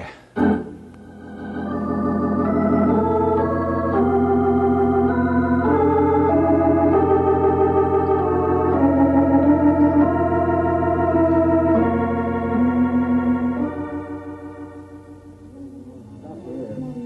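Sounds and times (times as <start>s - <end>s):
organ playing sustained chords: 0.3s - 17.0s.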